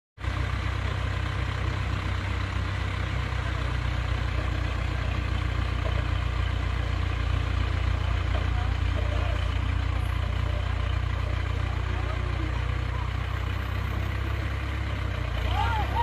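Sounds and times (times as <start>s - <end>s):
heavy vehicle engine running: 0.2s - 16.0s.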